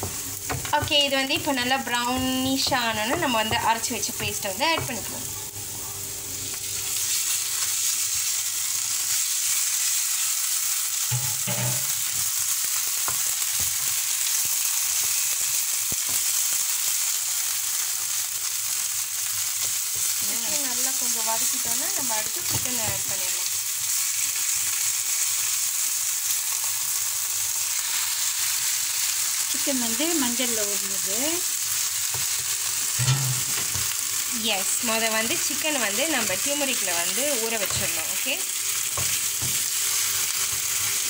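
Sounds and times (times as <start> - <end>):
onions sizzling in hot oil: 0.0 - 41.0.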